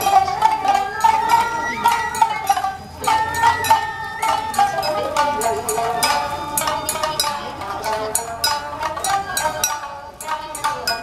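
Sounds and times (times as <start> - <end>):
high held melody line: 0.0 - 11.0
shamisen plucked: 0.0 - 11.0
sharp percussive strikes: 0.0 - 11.0.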